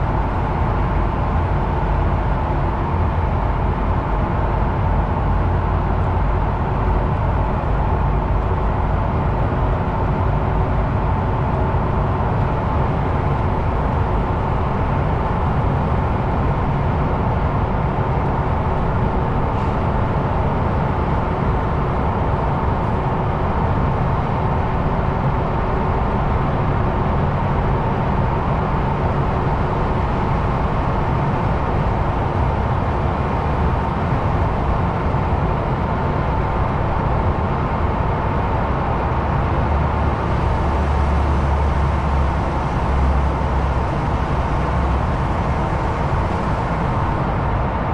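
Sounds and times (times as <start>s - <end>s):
faint steady whine: 0.0s - 47.9s
truck engine driving: 0.0s - 47.9s.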